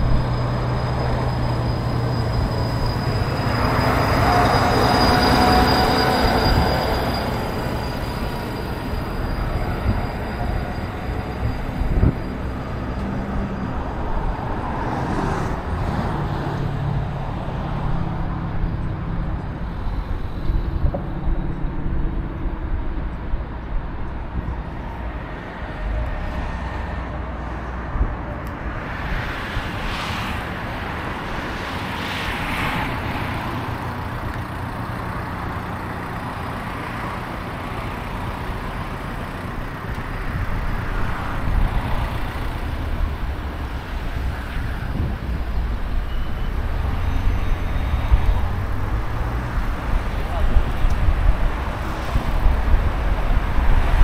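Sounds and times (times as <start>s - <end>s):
low rumble of traffic: 0.0s - 54.0s.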